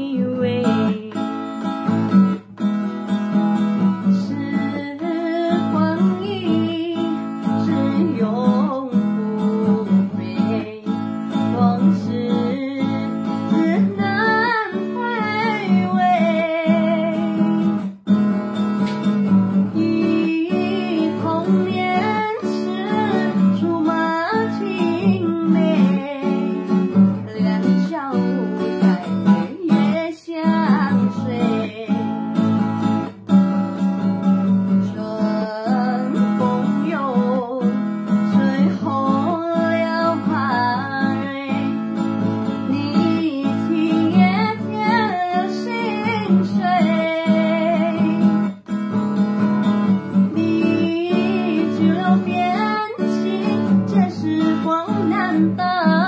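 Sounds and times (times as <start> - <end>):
woman singing a slow ballad: 0.0 - 1.9, 3.9 - 17.8, 19.5 - 32.3, 34.7 - 48.6, 50.0 - 56.0
acoustic guitar strumming: 0.0 - 56.0.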